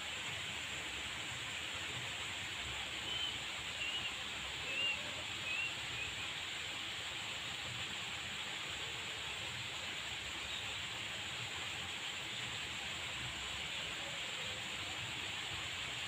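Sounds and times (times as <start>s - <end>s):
outdoor ambient hiss: 0.0s - 16.0s.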